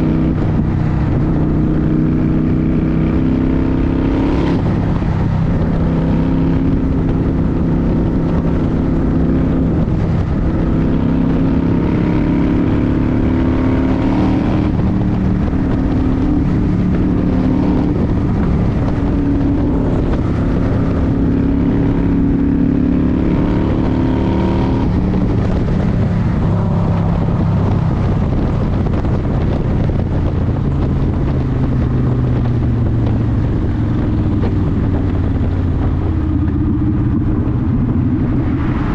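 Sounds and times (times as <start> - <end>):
motorcycle engine running: 0.0 - 38.9
rushing wind: 0.0 - 38.9.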